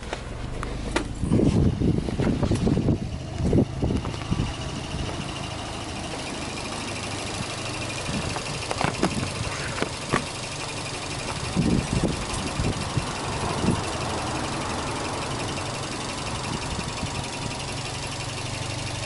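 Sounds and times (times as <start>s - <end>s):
car engine idling: 0.0s - 19.0s
fast engine ticking: 0.0s - 19.0s.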